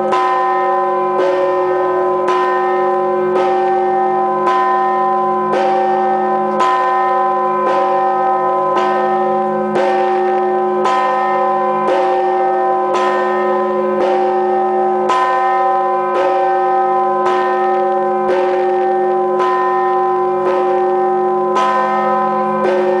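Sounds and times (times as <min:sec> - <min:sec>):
church bell tolling: 0:00.0 - 0:23.0.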